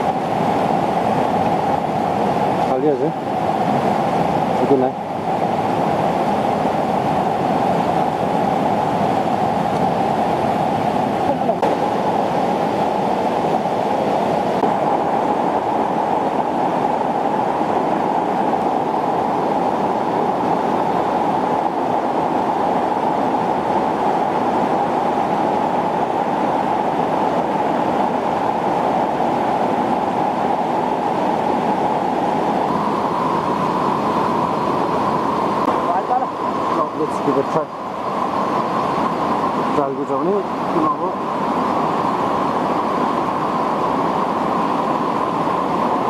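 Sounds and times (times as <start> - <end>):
river rushing over rapids: 0.0 - 46.0.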